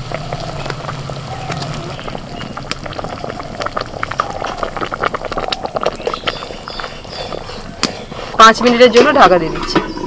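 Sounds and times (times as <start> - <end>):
gravy boiling with crackling pops: 0.0 - 10.0.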